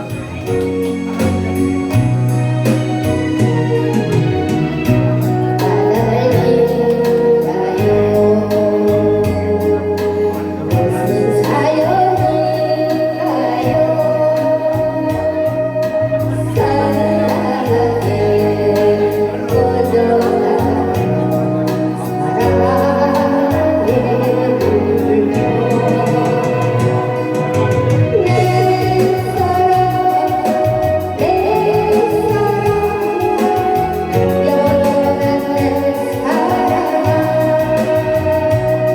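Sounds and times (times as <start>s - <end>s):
steady bass beat: 0.0s - 6.9s, 13.6s - 38.9s
person singing: 0.0s - 38.9s.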